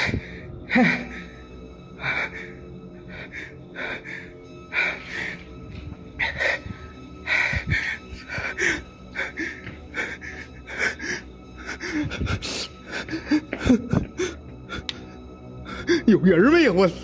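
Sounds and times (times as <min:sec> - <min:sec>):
man breathing hard: 0:00.0 - 0:16.1
quiet background music: 0:00.0 - 0:17.0.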